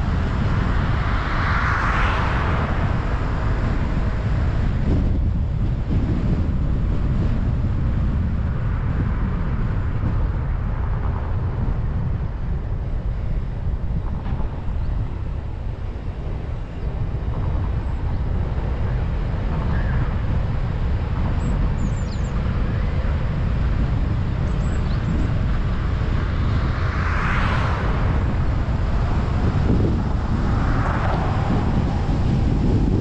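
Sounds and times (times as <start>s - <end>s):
passing vehicle rush: 0.0s - 33.0s
road and wind rumble: 0.0s - 33.0s.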